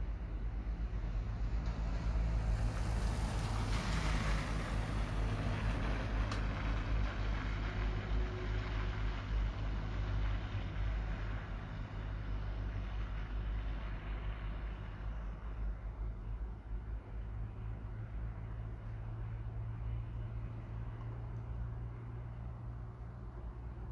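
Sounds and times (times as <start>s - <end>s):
tyre hiss on wet street: 0.0s - 21.8s.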